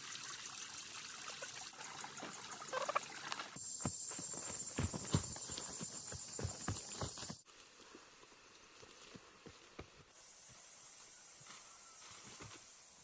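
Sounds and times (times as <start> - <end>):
forest insects buzzing: 2.0 - 13.0.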